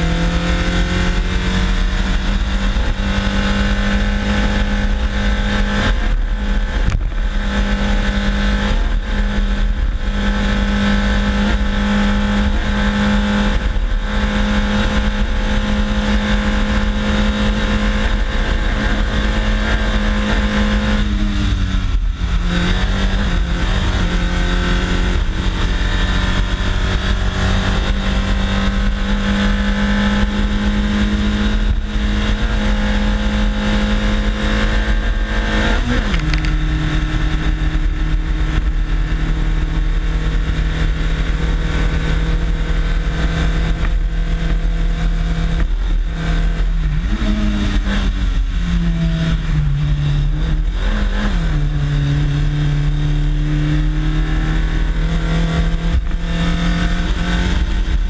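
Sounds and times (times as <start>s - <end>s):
car engine running hard: 0.0s - 58.0s
road and wind rumble: 0.0s - 58.0s.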